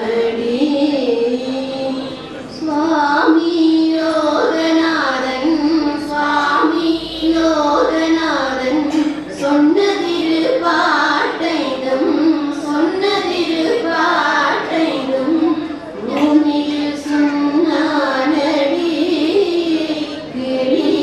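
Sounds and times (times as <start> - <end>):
women singing devotional song: 0.0 - 21.0.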